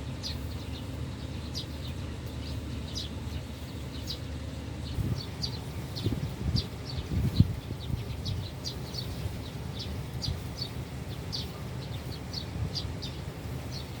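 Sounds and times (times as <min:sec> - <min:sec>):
low rumble of wind or traffic: 0:00.0 - 0:14.0
small birds chirping: 0:00.0 - 0:14.0.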